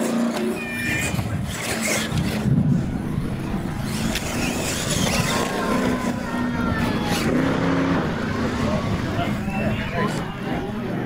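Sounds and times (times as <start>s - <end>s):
tires crunching on gravel: 0.0s - 10.8s
toy truck motors whining: 0.0s - 11.0s.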